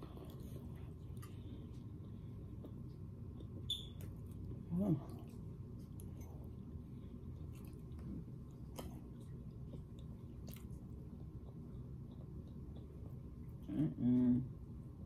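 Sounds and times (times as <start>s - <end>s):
quiet chewing mouth sounds: 0.0s - 14.6s.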